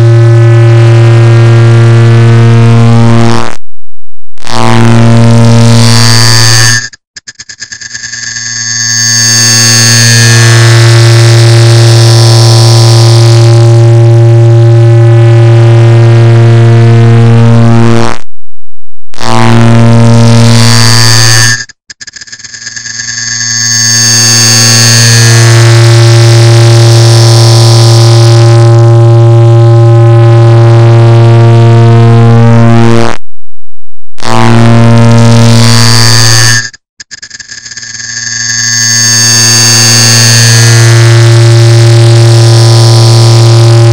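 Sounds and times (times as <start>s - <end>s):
distorted electronic buzzing drone: 0.0s - 43.9s.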